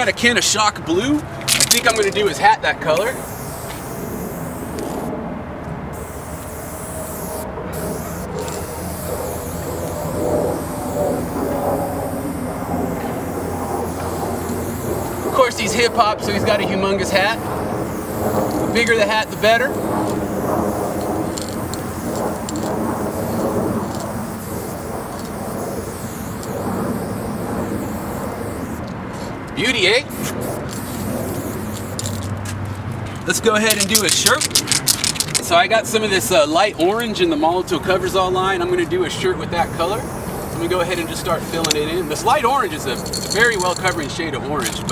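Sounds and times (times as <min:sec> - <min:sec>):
steady low rumble: 0:00.0 - 0:44.9
spray paint can hissing: 0:01.4 - 0:05.1, 0:05.9 - 0:35.7, 0:39.0 - 0:44.9.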